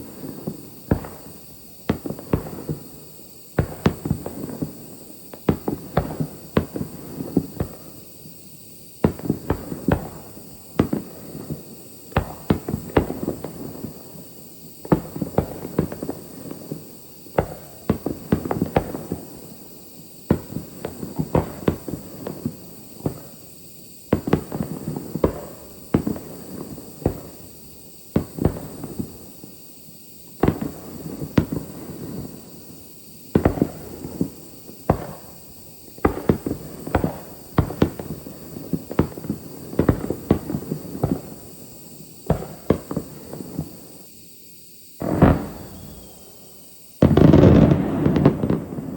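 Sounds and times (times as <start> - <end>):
fireworks bangs: 0.0 - 44.1, 45.0 - 48.9.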